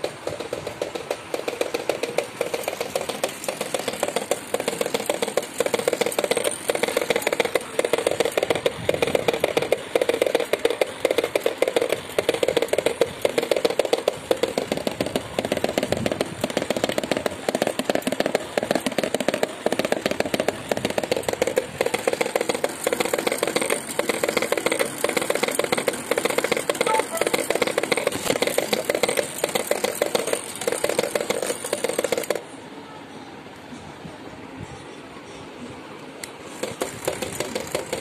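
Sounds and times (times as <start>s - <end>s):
metal strip rattling on plastic lid: 0.0s - 32.4s, 36.5s - 38.0s
small motor whirring: 0.0s - 32.4s.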